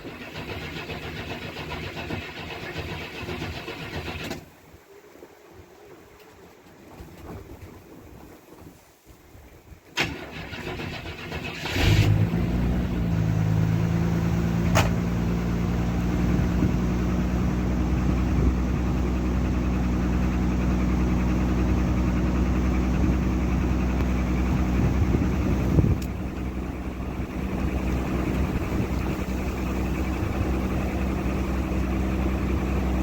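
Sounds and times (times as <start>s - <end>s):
car engine cranking and idling: 0.0s - 4.6s, 10.0s - 33.0s.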